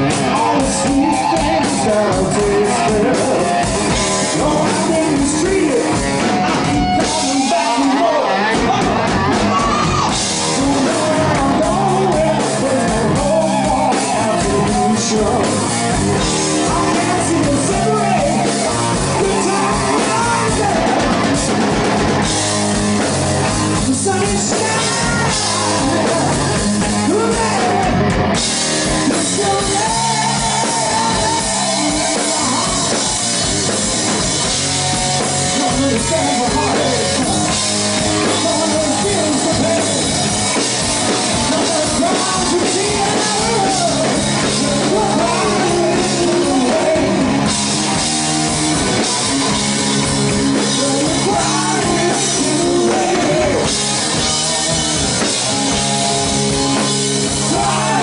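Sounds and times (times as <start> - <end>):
man singing lead vocal: 0.0 - 21.7, 23.0 - 58.0
bass guitar: 0.0 - 58.0
distorted electric guitar: 0.0 - 58.0
drum kit: 0.0 - 58.0
hard rock band playing live: 0.0 - 58.0.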